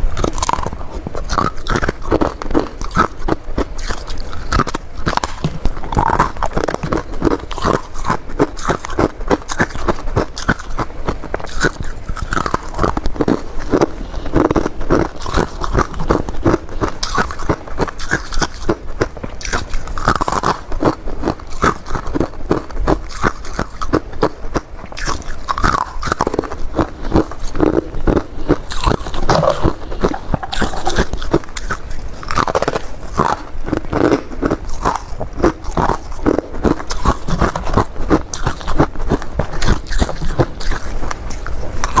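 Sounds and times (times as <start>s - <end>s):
frost being chewed: 0.0s - 42.0s.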